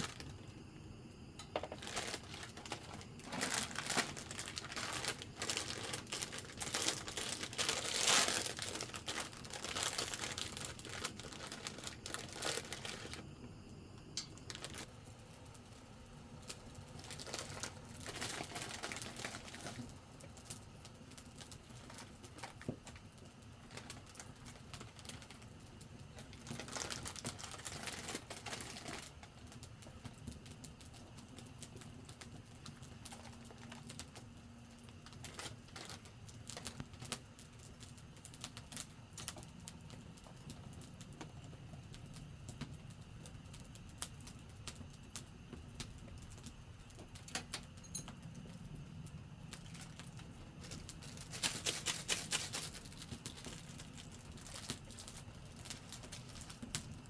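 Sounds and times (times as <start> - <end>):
campfire crackling and popping: 0.0 - 13.4, 14.2 - 57.0.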